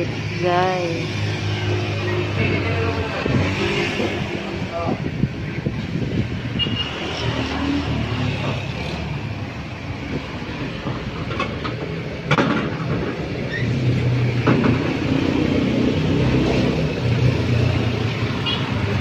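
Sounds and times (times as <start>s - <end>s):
heavy road traffic rumble: 0.0s - 19.0s.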